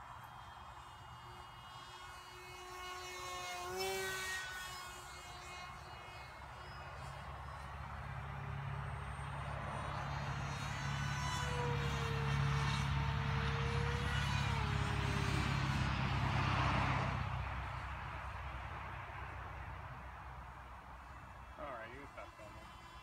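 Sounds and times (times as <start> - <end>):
model plane motor whining: 0.0 - 23.0.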